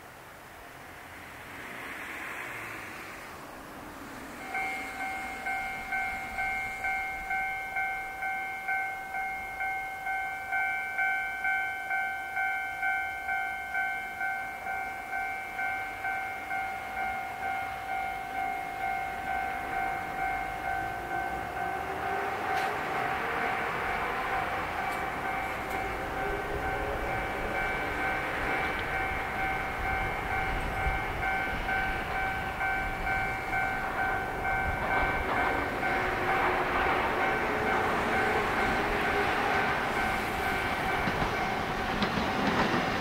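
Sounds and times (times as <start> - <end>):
electric train whine: 0.0 - 43.0
level crossing alarm dinging: 4.4 - 42.1.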